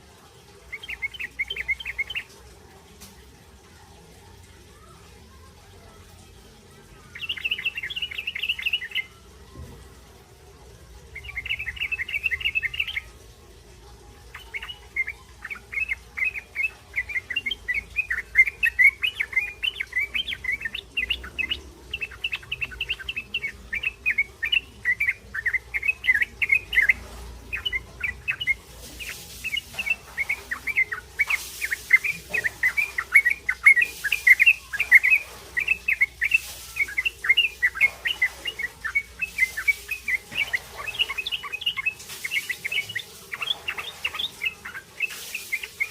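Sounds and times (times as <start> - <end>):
bird twittering high chirps: 0.6 - 2.4, 7.0 - 9.7, 11.1 - 13.3, 14.2 - 45.9.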